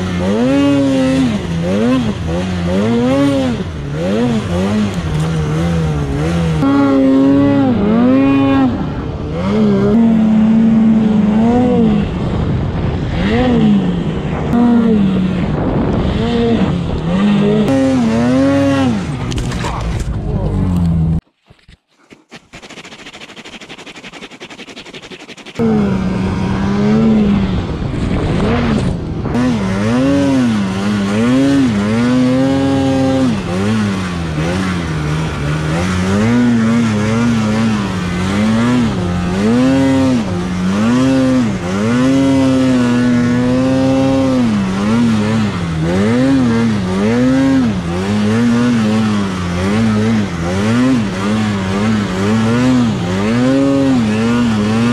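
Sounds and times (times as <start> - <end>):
snowmobile engine revving: 0.0 - 21.2, 23.1 - 54.9.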